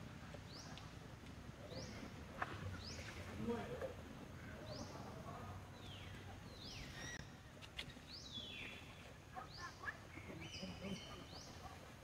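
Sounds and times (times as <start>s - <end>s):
forest ambience: 0.0s - 12.0s.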